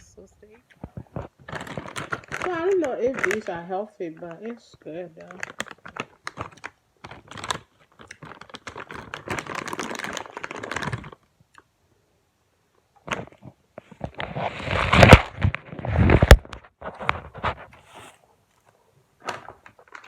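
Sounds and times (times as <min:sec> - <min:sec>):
items rustling and clattering: 0:00.6 - 0:11.2, 0:13.0 - 0:20.0.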